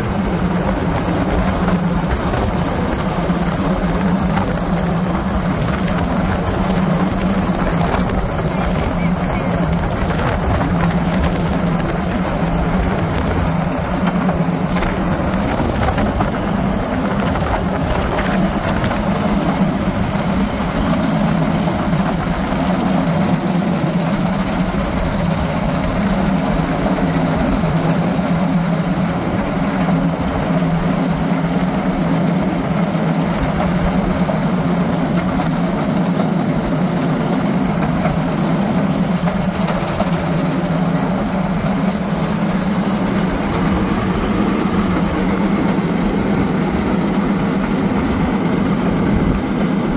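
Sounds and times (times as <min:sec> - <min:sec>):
railcart engine humming: 0:00.0 - 0:49.9.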